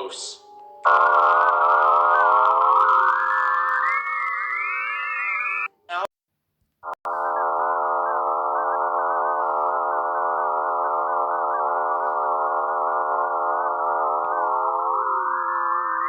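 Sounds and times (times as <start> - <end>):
synthesized space drone: 0.9 - 5.7, 7.1 - 16.0.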